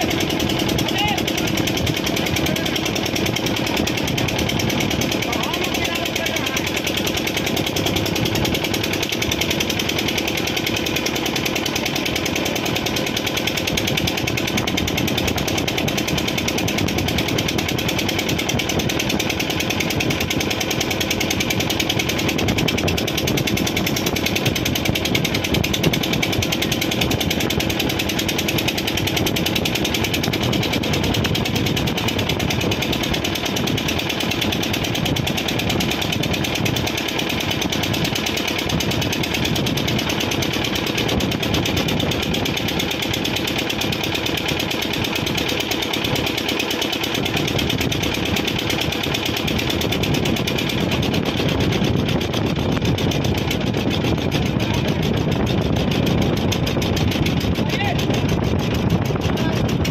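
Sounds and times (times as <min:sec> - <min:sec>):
motorboat engine chugging: 0:00.0 - 0:59.9.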